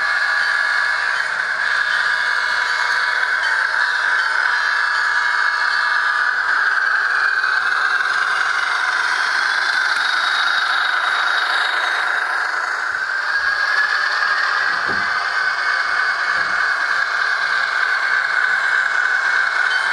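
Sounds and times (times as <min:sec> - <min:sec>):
diesel engine sound from small speaker: 0:00.0 - 0:19.9.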